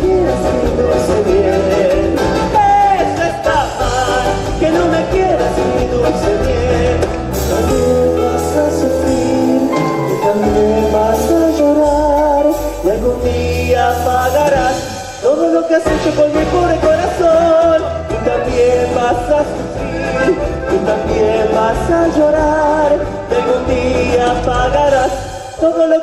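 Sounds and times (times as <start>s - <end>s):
steady bass line: 0.0s - 25.4s
band playing latin pop song: 0.0s - 26.0s
person singing: 0.0s - 26.0s.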